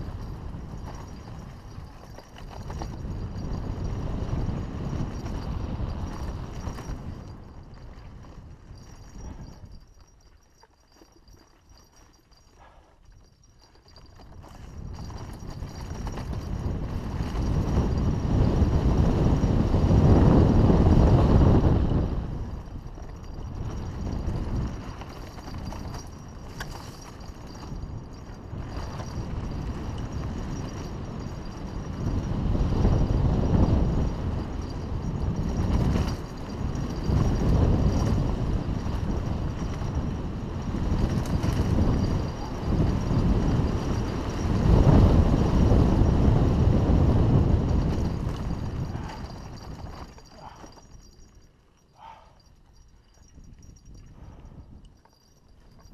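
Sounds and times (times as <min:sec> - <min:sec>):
wind rushing over microphone: 0:00.0 - 0:10.0, 0:14.2 - 0:51.3
tyres crunching over dirt trail: 0:00.0 - 0:54.2
mountain bike rattling: 0:00.0 - 0:55.9.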